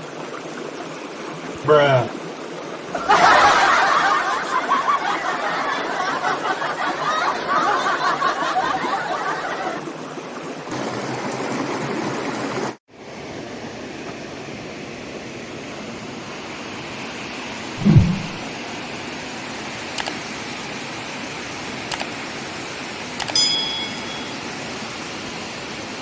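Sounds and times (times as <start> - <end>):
stream water rushing: 0.0 - 6.2, 8.0 - 14.6, 17.8 - 26.0.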